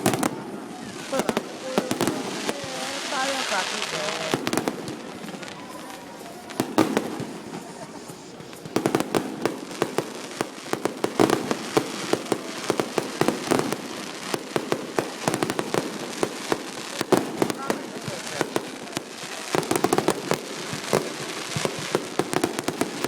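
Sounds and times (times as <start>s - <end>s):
fireworks crackling bangs: 0.0s - 23.0s.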